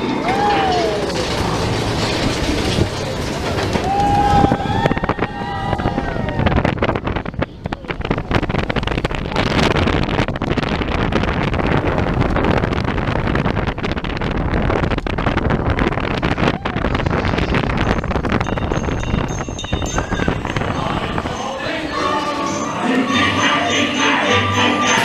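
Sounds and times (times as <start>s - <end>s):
wind rushing over microphone: 0.0s - 22.5s
roller coaster rumbling on track: 0.0s - 25.0s.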